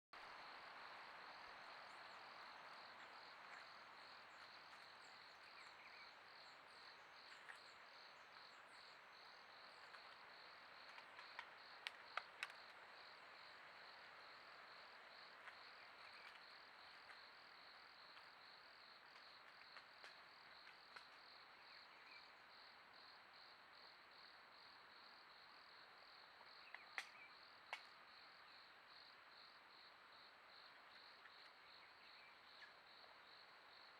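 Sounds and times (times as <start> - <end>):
insect chirping: 0.2 - 33.9.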